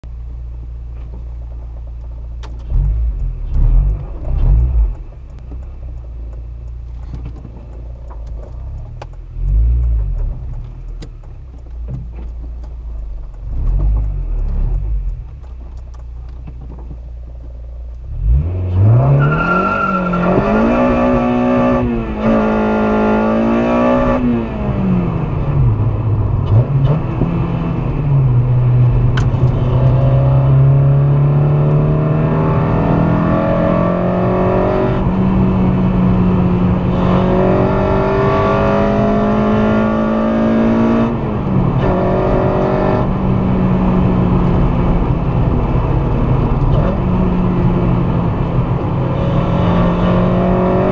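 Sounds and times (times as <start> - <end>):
car engine accelerating hard: 2.6 - 6.1, 6.9 - 50.9.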